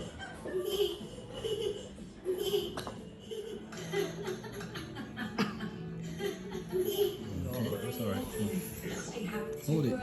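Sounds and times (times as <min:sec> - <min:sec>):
children's tv music: 0:00.0 - 0:10.0.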